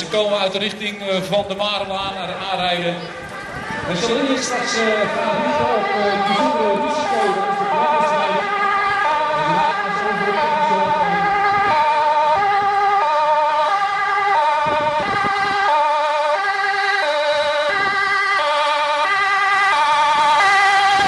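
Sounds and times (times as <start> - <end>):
two-tone fire engine siren: 1.3 - 21.0.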